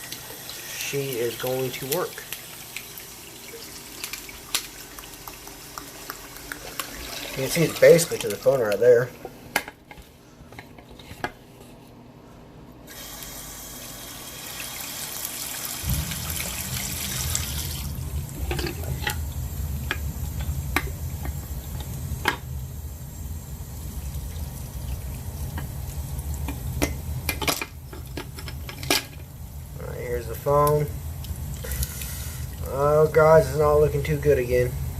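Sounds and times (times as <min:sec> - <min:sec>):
tap water running over ice: 0:00.0 - 0:09.0, 0:12.9 - 0:34.8.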